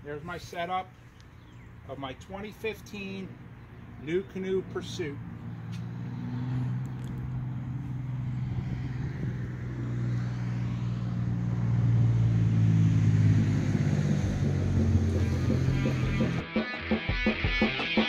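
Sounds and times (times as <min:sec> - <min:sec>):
vehicle engine humming: 0:00.0 - 0:16.4.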